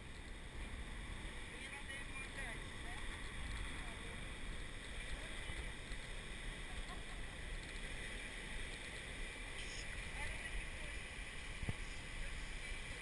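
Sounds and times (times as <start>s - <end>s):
wind rumbling on microphone: 0.0s - 13.0s
ocean surf breaking: 0.4s - 13.0s.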